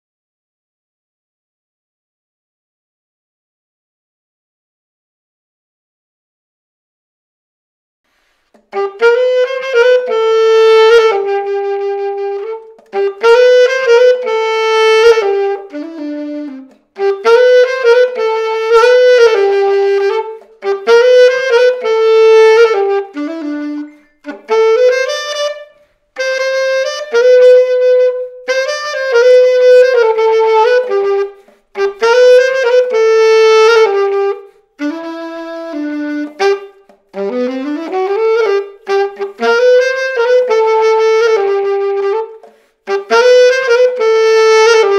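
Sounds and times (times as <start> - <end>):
alto saxophone phrases: 8.6 - 44.9.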